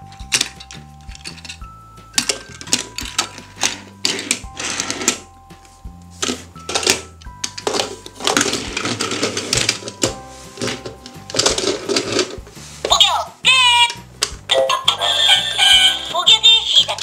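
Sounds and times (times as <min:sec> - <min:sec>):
plastic toy vehicles clacking: 0:00.0 - 0:05.3, 0:06.2 - 0:17.0
light background music: 0:00.0 - 0:17.0.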